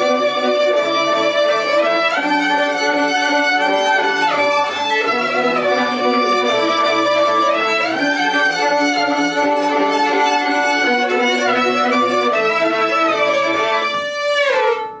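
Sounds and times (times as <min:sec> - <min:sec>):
violin duet: 0:00.0 - 0:15.0.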